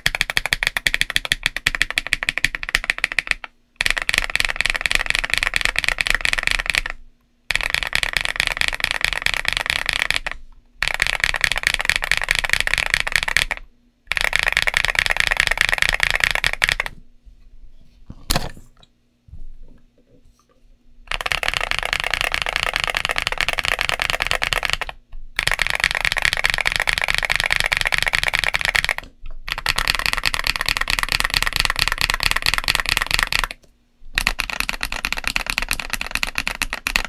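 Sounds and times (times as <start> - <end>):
mechanical keyboard typing: 0.0 - 17.0, 21.1 - 37.0.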